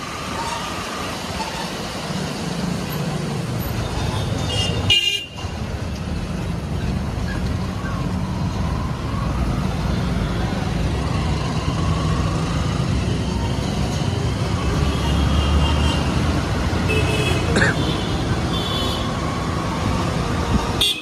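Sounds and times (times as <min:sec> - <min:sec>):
bus rumble: 0:00.0 - 0:20.8.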